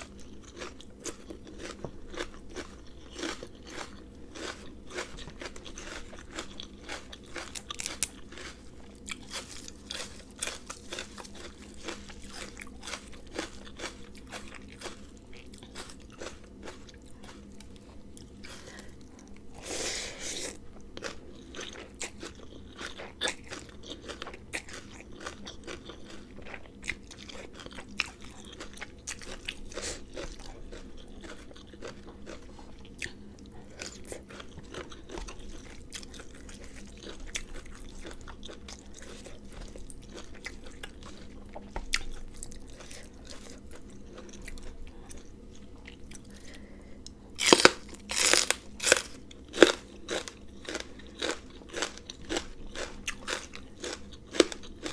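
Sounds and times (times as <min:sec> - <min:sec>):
person crunching and chewing food: 0:00.0 - 0:54.9.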